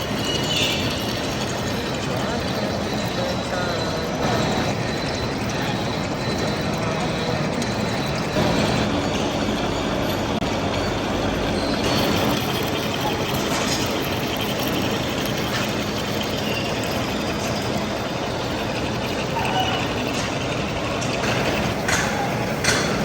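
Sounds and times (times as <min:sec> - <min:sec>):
workshop machinery running: 0:00.0 - 0:23.0.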